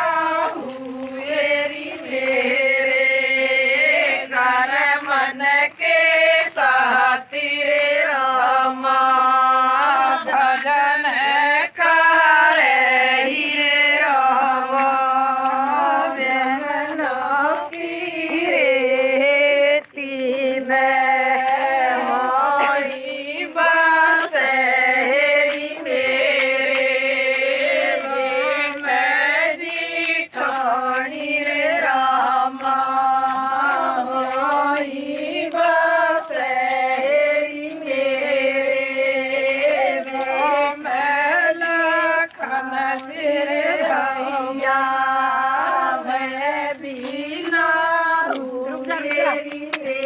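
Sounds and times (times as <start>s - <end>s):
women singing in unison: 0.0s - 50.0s.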